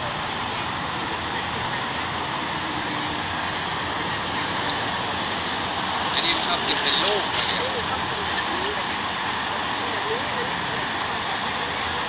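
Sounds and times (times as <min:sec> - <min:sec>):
outdoor background hiss and rumble: 0:00.0 - 0:12.0.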